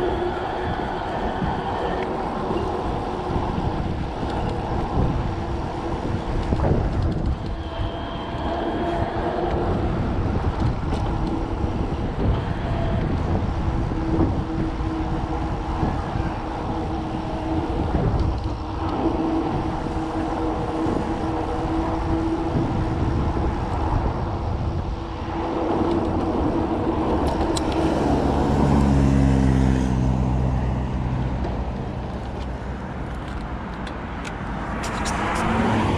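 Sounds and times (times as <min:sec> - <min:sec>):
passing vehicle engine: 0:00.0 - 0:33.0, 0:34.6 - 0:35.9
rumbling vehicle noise: 0:00.0 - 0:35.9.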